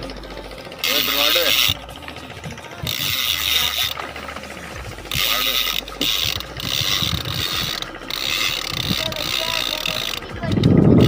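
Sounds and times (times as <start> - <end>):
fishing reel ratchet clicking: 0.0 - 11.0.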